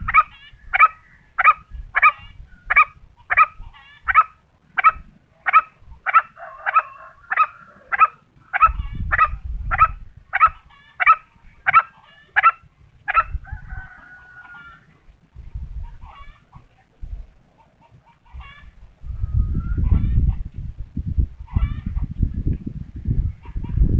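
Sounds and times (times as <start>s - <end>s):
junglefowl calling: 0.0s - 15.0s, 15.8s - 16.8s, 17.5s - 20.4s, 21.4s - 22.1s.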